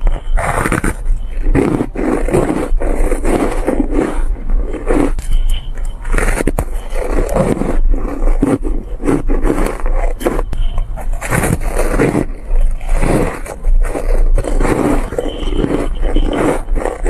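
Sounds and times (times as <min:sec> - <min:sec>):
shaved ice being chewed: 0:00.0 - 0:17.0.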